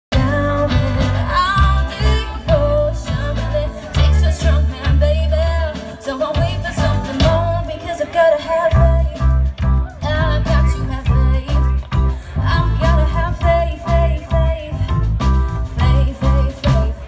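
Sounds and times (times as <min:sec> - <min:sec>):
strummed electric guitars: 0:00.1 - 0:17.0
woman singing: 0:00.1 - 0:17.0.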